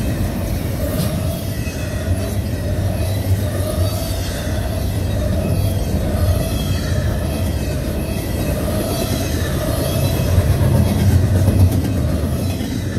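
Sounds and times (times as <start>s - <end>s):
freight train wheels rumbling on rails: 0.0s - 12.9s.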